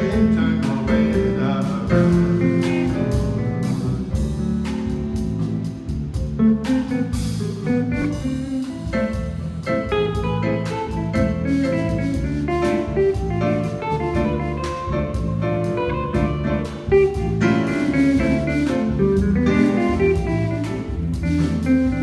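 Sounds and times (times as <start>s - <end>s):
latin band playing: 0.0s - 22.0s
low bass notes: 0.0s - 22.0s
plucked guitar line: 0.0s - 22.0s.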